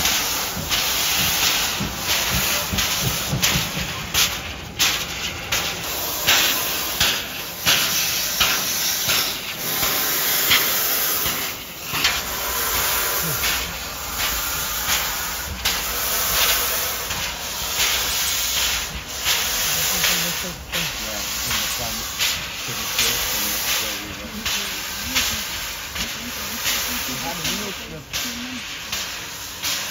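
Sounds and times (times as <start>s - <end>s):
sharp steam puffs: 0.0s - 29.9s
steam locomotive venting steam: 0.0s - 29.9s.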